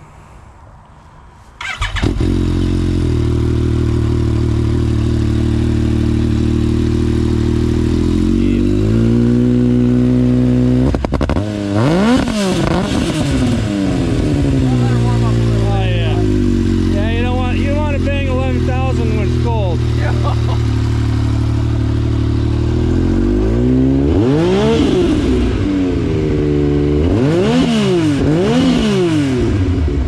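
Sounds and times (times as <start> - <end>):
engine idling and revving: 1.6 - 30.0.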